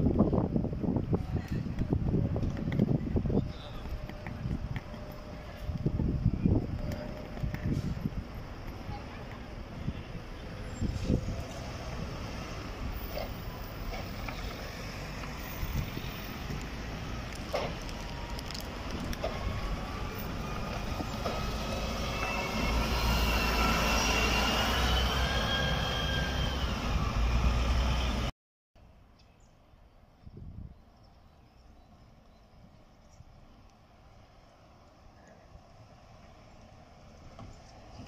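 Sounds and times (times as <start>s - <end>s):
bus engine rumble: 0.0s - 28.3s, 30.2s - 38.0s
faint street noise: 0.0s - 38.0s.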